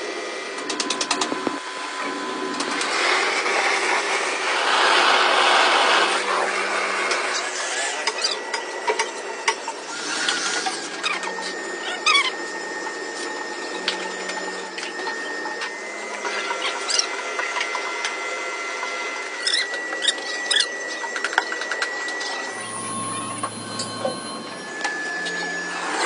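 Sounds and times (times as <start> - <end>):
machinery whining: 0.0 - 26.0.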